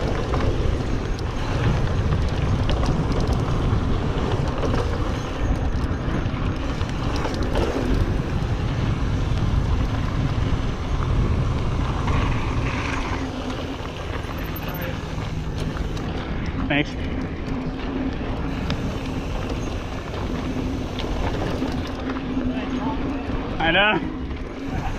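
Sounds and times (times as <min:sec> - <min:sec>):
bike rattles and clicks: 0:00.0 - 0:24.9
bike tyres rolling on dirt: 0:00.0 - 0:24.9
wind buffeting microphone: 0:00.0 - 0:24.9.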